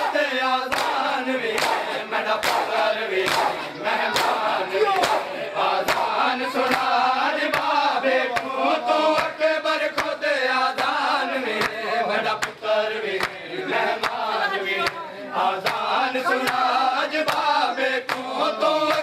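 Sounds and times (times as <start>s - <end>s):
palms slapping chests in unison: 0.0s - 15.0s, 15.6s - 19.0s
men chanting together: 0.0s - 19.0s.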